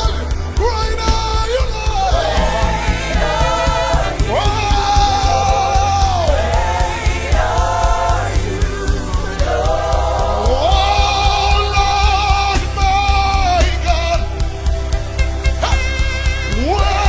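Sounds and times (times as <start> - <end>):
full band playing: 0.0 - 17.0.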